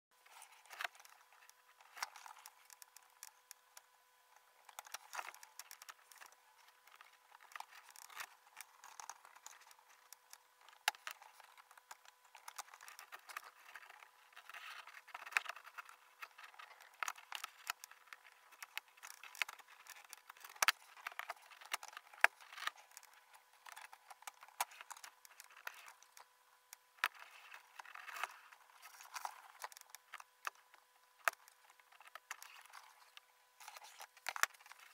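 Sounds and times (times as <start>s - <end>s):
faint steady hum: 0.2s - 34.9s
surgical instruments clicking and scraping: 4.6s - 26.3s, 27.0s - 34.9s.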